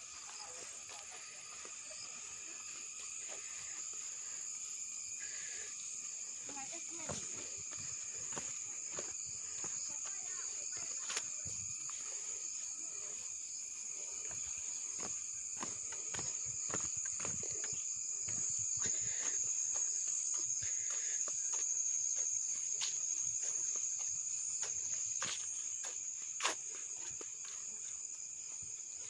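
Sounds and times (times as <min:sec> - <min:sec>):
footsteps through undergrowth: 0:00.0 - 0:29.0
insects droning: 0:00.0 - 0:29.0.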